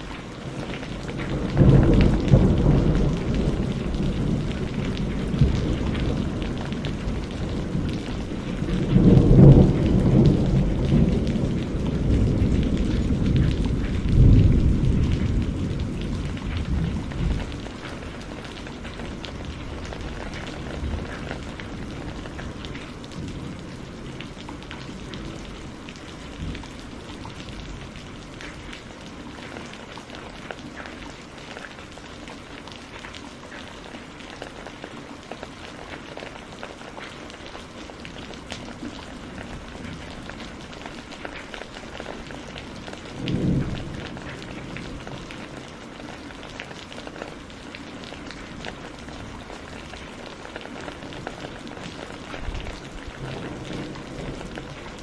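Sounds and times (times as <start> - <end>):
low thunder rumbles: 0.0 - 30.4, 37.6 - 55.0
steady rain: 0.0 - 55.0.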